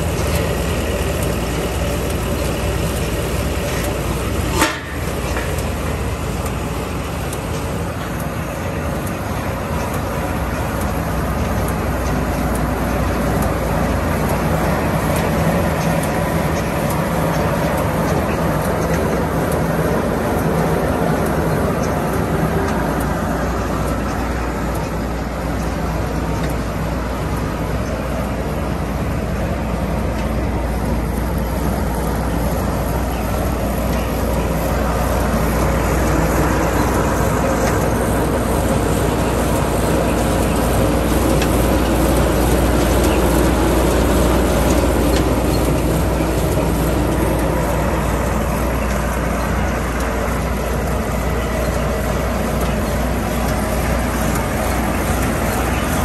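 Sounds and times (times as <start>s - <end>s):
loud machinery noise: 0.0s - 56.0s.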